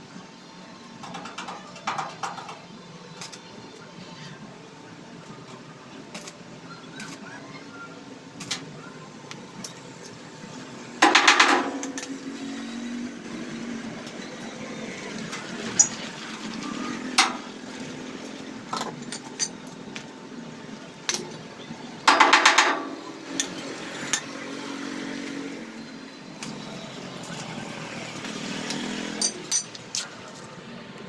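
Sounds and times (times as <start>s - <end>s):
steady engine hum: 0.0s - 31.0s.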